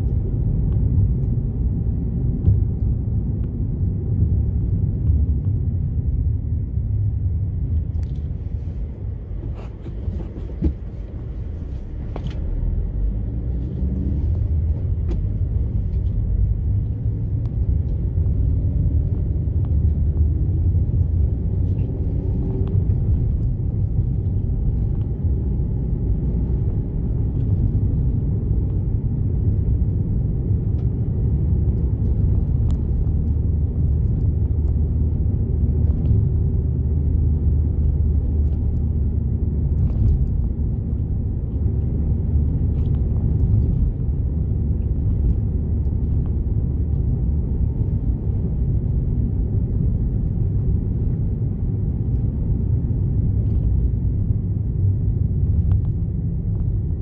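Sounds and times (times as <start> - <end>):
tyres and engine rumble: 0.0 - 57.0.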